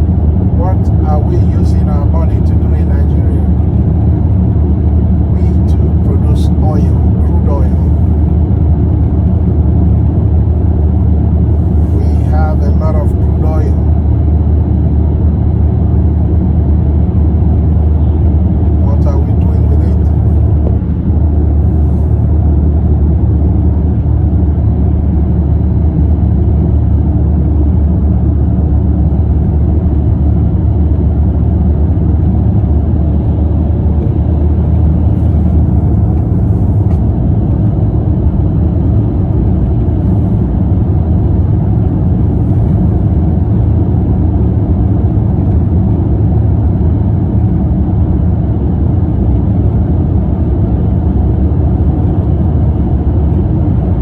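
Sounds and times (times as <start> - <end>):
car interior road rumble: 0.0 - 25.4, 29.4 - 54.0.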